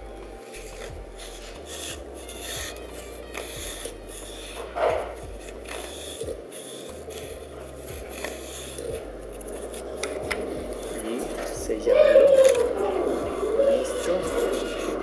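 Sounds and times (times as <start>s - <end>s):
yarn rubbing against wooden board: 0.0s - 15.0s.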